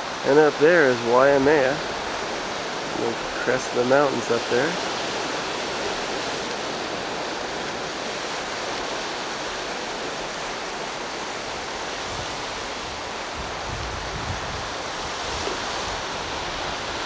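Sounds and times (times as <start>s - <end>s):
ocean surf on rocky shore: 0.0s - 17.0s.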